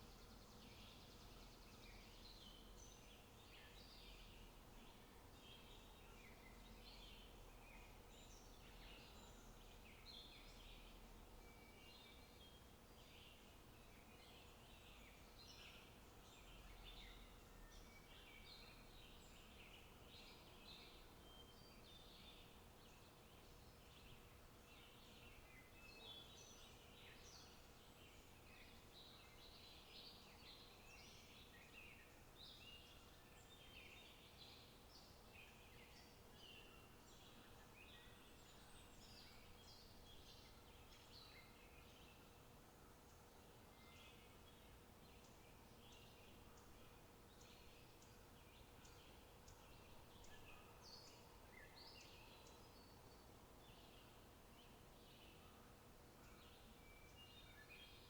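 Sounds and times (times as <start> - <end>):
small birds chirping and singing: 0.0 - 58.0.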